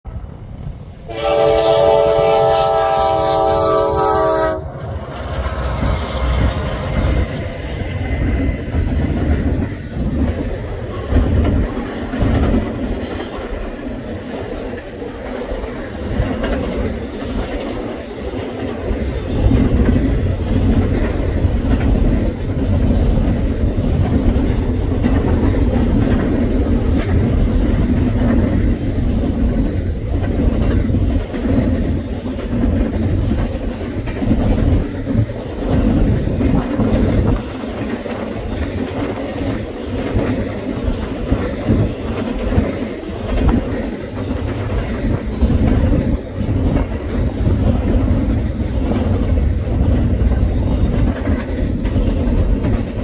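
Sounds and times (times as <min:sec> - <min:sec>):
train wheels rumbling on rail: 0:00.0 - 0:53.0
wheels clacking over rail joints: 0:04.6 - 0:53.0.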